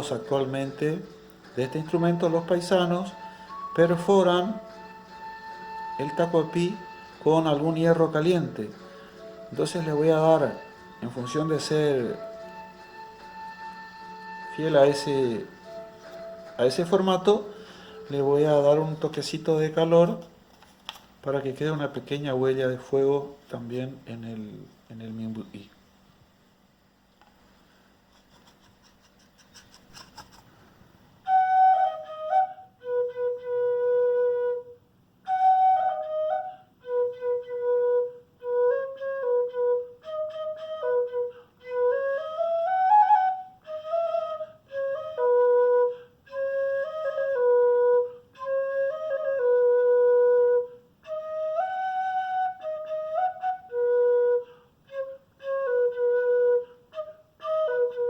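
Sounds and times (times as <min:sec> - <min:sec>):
cane flute slow melody: 0:00.0 - 0:20.2, 0:31.2 - 0:58.0.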